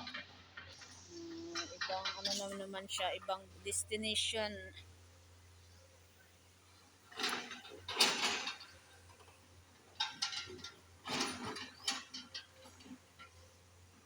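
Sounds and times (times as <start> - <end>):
backhoe clattering and scraping: 0.0 - 14.0.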